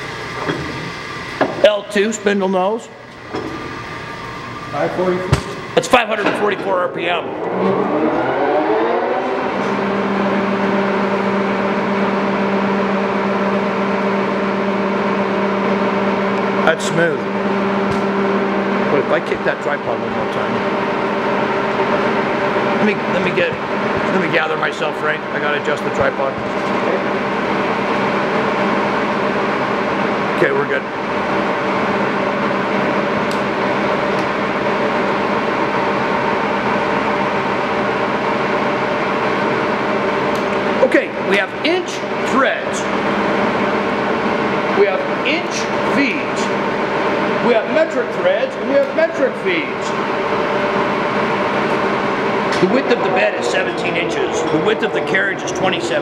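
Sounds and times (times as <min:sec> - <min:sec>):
lathe humming: 0:00.0 - 0:56.0.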